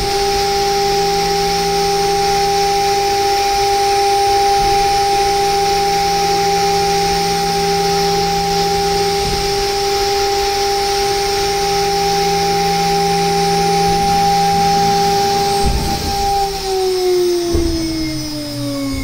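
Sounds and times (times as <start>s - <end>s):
cnc spindle high whine: 0.0s - 19.0s
hiss of milling cut: 0.0s - 19.0s.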